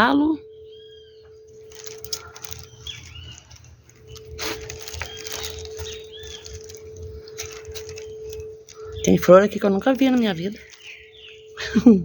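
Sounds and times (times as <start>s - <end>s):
birds whistling calls: 0.5s - 11.8s.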